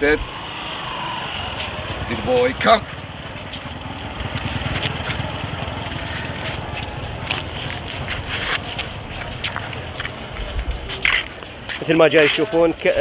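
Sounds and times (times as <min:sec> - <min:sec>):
steady low rumble: 0:00.0 - 0:11.6
dog feet scuffing on concrete: 0:00.8 - 0:13.0.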